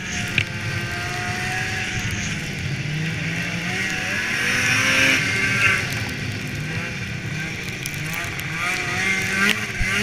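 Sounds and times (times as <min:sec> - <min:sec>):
snowmobile engine whine: 0:00.0 - 0:10.0.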